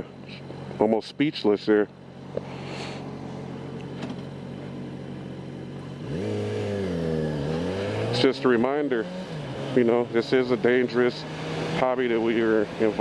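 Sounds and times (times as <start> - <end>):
motorcycle engine revving: 1.8 - 13.0.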